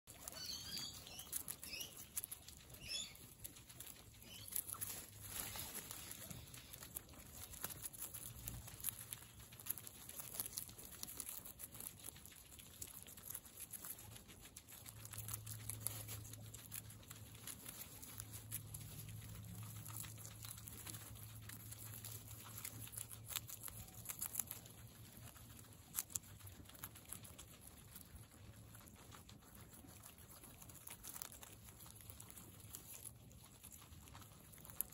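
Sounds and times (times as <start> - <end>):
guinea pig squeaks: 0.0 - 34.9
guinea pigs crunching vegetables: 0.0 - 34.9.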